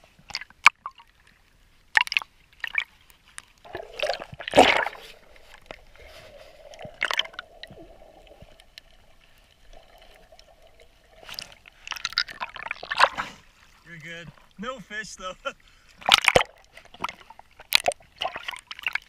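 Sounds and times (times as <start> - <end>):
water splashing and gurgling: 0.0 - 19.0
faint steady hum: 1.2 - 18.4.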